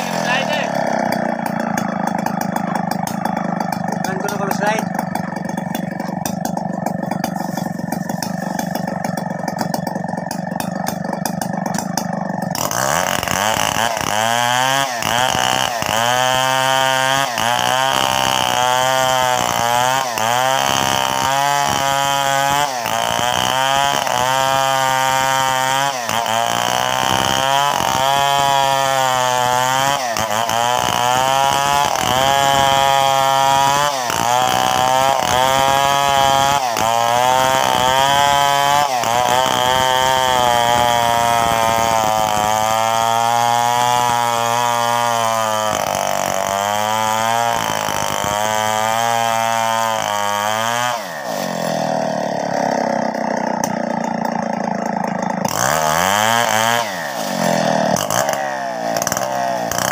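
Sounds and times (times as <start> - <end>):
chainsaw idling and cutting: 0.0 - 59.9.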